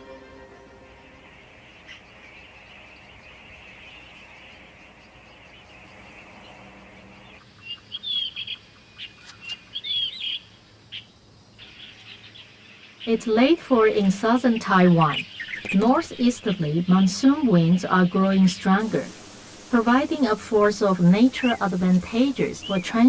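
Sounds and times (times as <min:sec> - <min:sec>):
birds chirping and whistling: 0:00.0 - 0:13.2, 0:14.2 - 0:18.1, 0:21.2 - 0:23.0
outdoor hiss: 0:00.0 - 0:23.0.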